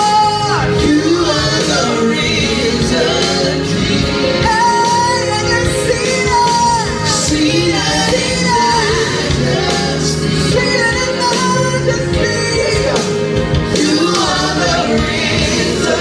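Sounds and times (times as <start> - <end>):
group singing worship song: 0.0 - 16.0
instrumental accompaniment: 0.0 - 16.0.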